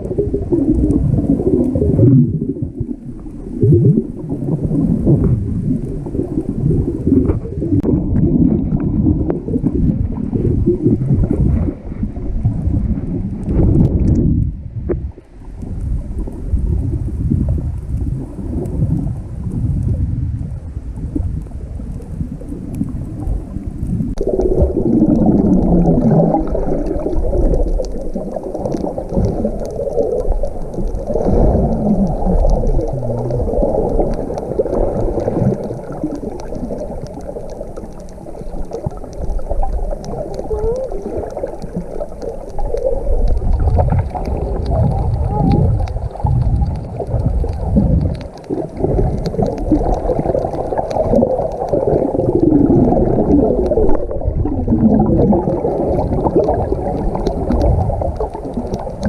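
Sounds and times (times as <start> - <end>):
muffled underwater bubbling gurgles: 0.0 - 59.0.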